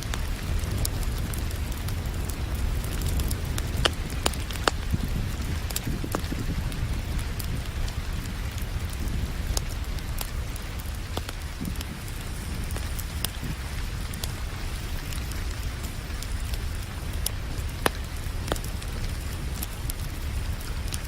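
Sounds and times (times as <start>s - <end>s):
rain hissing: 0.0s - 21.0s
wood fire crackling and popping: 0.0s - 21.0s.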